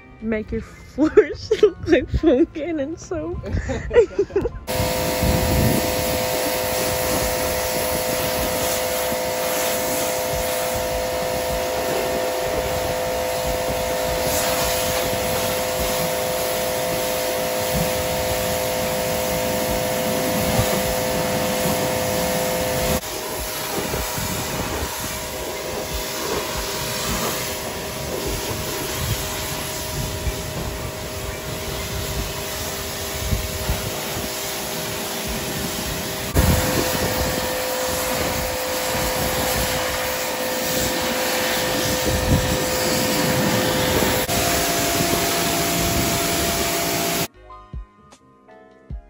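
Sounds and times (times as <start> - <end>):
pressure washer motor hum: 4.6 - 47.3
pressure washer spraying water: 4.7 - 47.3.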